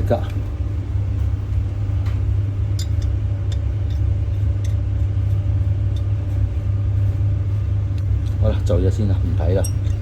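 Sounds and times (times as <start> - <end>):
vacuum pump humming: 0.0 - 10.0.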